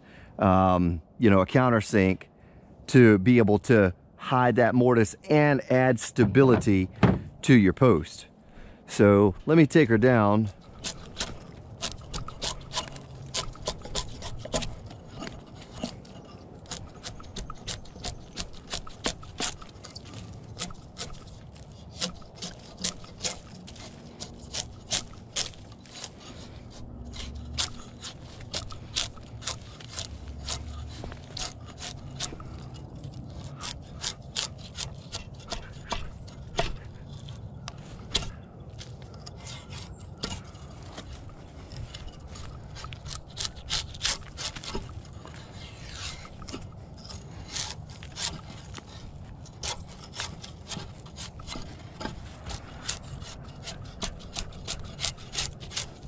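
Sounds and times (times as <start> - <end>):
wood scraping: 6.0 - 7.4, 9.0 - 56.0
clicks and knocks of wood and metal: 6.0 - 7.5, 10.4 - 56.0.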